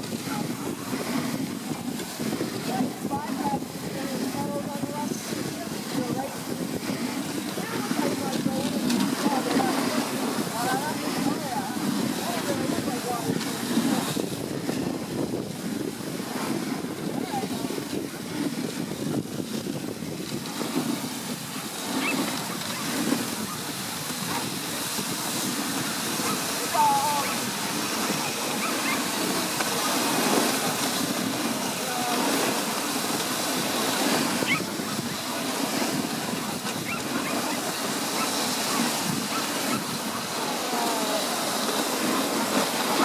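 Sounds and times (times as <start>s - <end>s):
sled runners hissing on snow: 0.0s - 43.0s
wind buffeting microphone: 0.0s - 43.0s.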